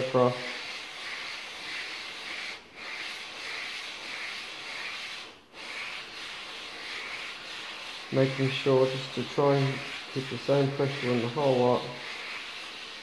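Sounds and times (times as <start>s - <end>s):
metal sliding over sandpaper: 0.0s - 13.0s.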